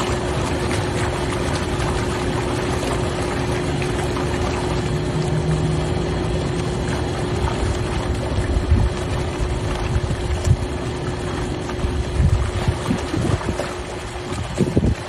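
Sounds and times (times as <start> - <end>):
pump hum: 0.0 - 15.0
water churning: 0.0 - 15.0.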